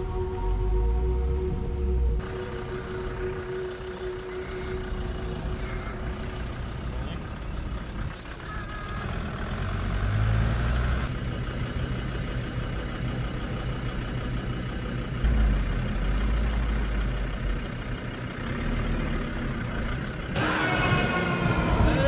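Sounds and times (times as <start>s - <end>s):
off-road vehicle engine rumbling: 0.0s - 22.0s.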